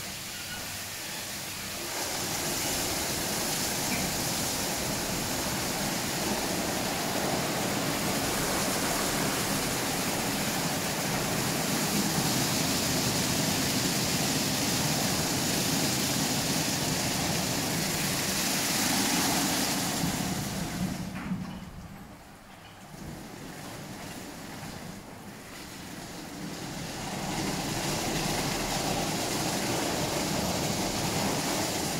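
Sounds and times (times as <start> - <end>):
water jets spraying: 0.0 - 21.2, 22.0 - 31.9.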